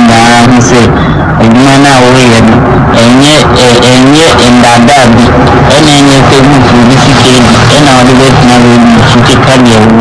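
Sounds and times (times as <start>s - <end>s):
man's distorted gliding voice: 0.0s - 10.0s.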